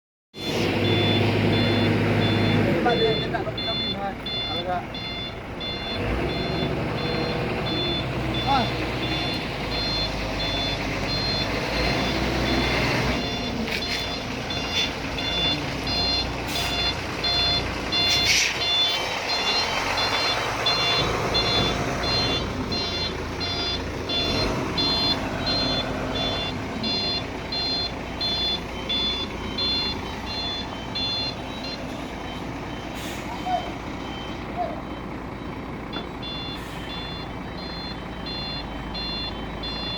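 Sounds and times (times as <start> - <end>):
truck engine rumble: 0.4 - 39.9
truck reversing alarm beeping: 0.4 - 39.9.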